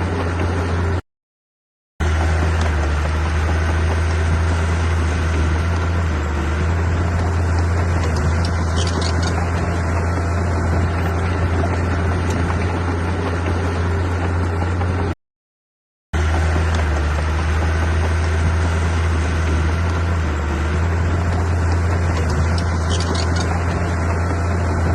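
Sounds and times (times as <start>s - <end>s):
diesel engine of heavy machinery: 0.0s - 1.0s, 2.0s - 15.2s, 16.2s - 24.9s.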